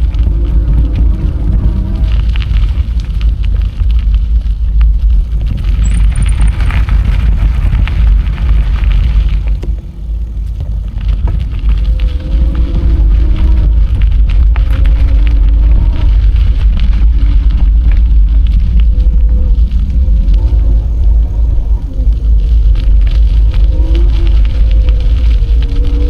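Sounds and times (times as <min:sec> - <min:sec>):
bicycle tyre crackling on trail: 0:00.0 - 0:26.0
wind rumbling on microphone: 0:00.0 - 0:26.0.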